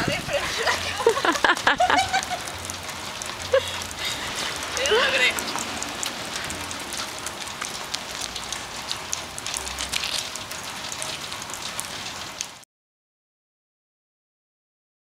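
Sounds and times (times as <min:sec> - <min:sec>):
light rain on pavement: 0:00.0 - 0:12.6.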